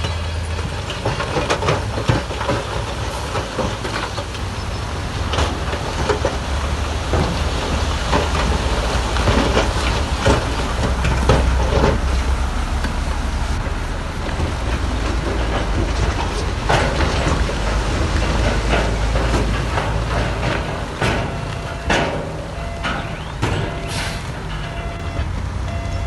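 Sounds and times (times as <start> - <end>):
diesel engine low drone: 0.0 - 26.0
metal clanks and knocks: 0.0 - 26.0.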